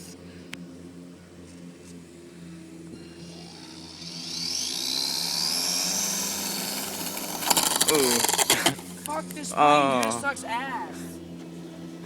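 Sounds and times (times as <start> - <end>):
model plane motor whine: 0.0 - 12.0
steady low hum: 0.0 - 12.0.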